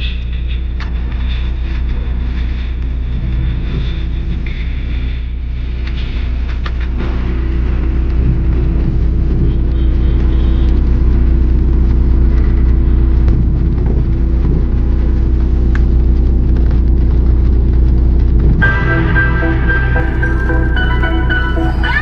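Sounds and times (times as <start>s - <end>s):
road rumble inside car: 0.0s - 18.6s.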